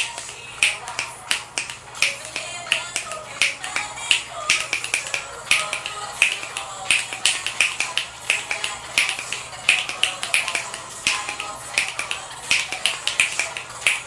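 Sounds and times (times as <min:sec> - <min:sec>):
faint music: 0:00.0 - 0:14.0
finger snaps: 0:00.0 - 0:14.0.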